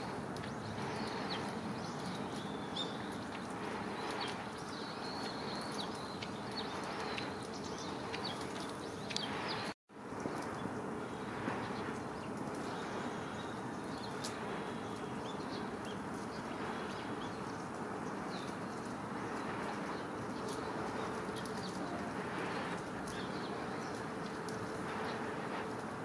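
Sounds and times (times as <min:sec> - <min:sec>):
small birds chirping: 0:00.0 - 0:26.0
steady rushing noise: 0:00.0 - 0:26.0.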